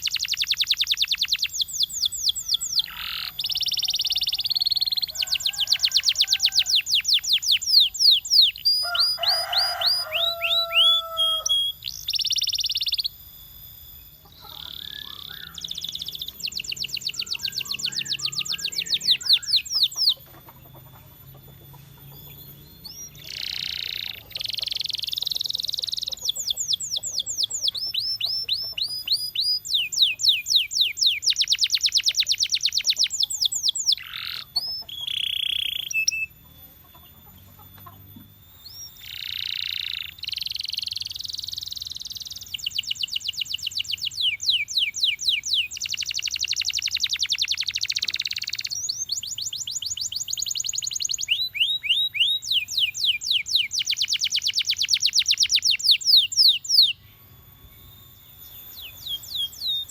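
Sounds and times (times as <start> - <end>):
canary singing chirps and trills: 0.0 - 59.9.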